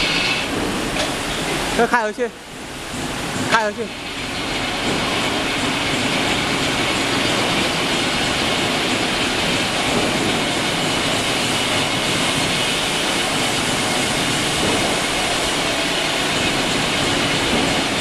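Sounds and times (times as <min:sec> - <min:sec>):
furnace car rolling on rails: 0:00.0 - 0:18.0.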